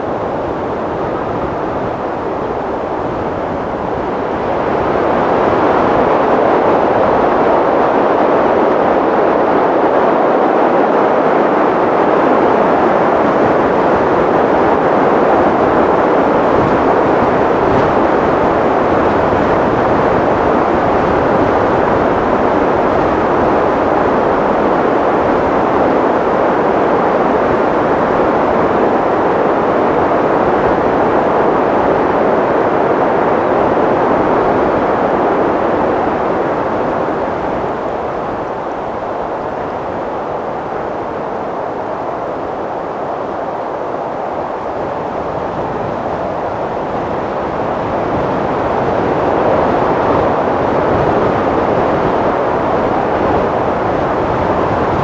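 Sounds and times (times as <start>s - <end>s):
wind blowing steadily: 0.0s - 55.0s.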